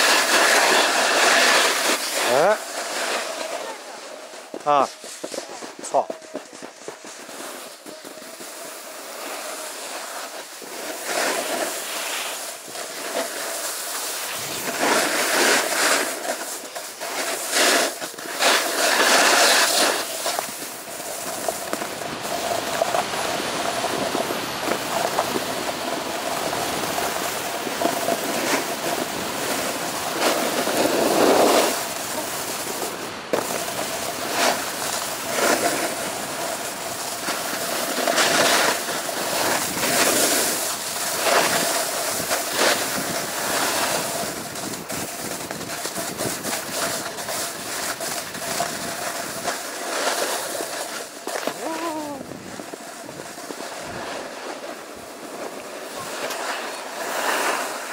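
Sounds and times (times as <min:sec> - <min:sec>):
snowboard scraping on snow: 0:00.0 - 0:57.9.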